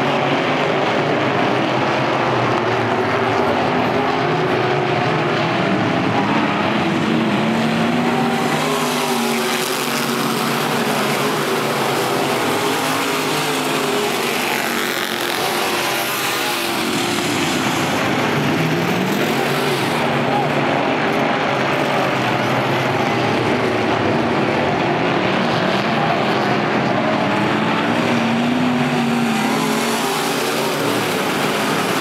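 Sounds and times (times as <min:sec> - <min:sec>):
race car engines roaring: 0:00.0 - 0:32.0.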